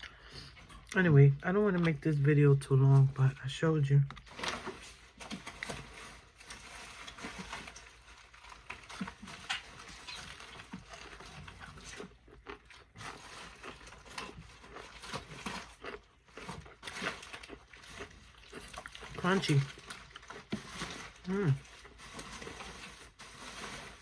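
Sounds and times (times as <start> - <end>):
chewing crunchy food: 4.1 - 24.0.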